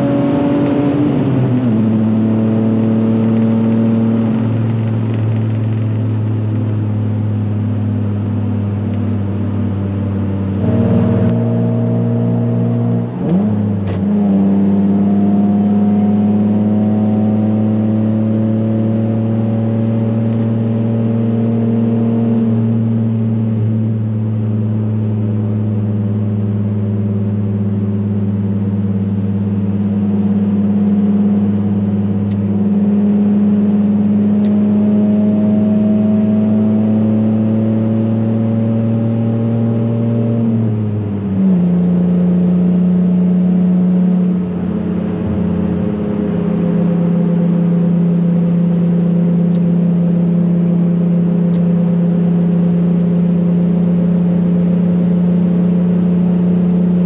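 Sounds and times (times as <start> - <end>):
car engine drone: 0.0 - 57.0.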